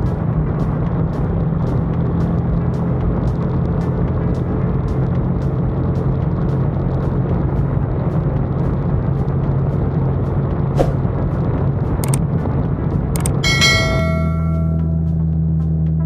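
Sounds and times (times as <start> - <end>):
motorcycle engine rumble: 0.0 - 16.0.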